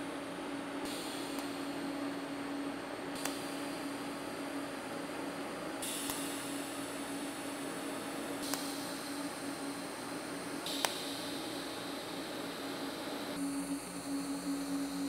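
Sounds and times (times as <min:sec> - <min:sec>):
welding arc buzz and hiss: 0:00.0 - 0:15.0.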